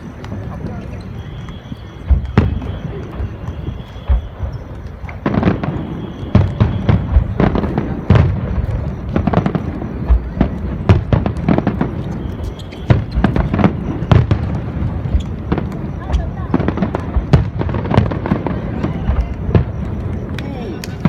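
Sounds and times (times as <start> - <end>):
fireworks booms and cracking bursts: 0.0 - 21.0.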